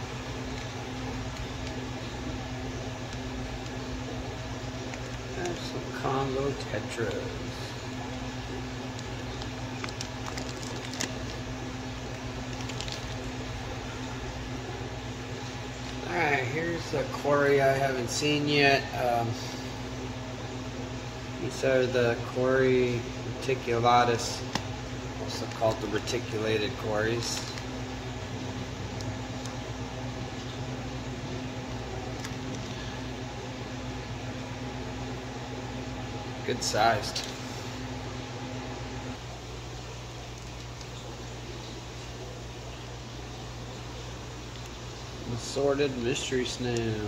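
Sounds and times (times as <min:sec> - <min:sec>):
aquarium equipment humming: 0:00.0 - 0:47.0.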